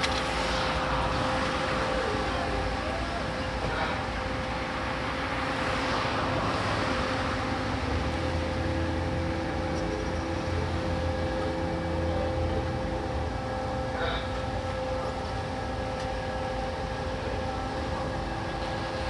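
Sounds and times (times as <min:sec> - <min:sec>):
ferry engine hum: 0:00.0 - 0:19.0.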